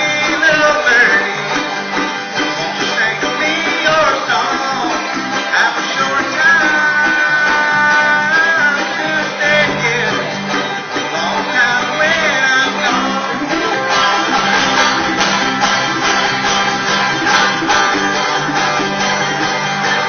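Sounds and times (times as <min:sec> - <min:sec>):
clawhammer banjo: 0:00.0 - 0:20.0
plucked guitar: 0:00.0 - 0:20.0
string band playing country tune: 0:00.0 - 0:20.0.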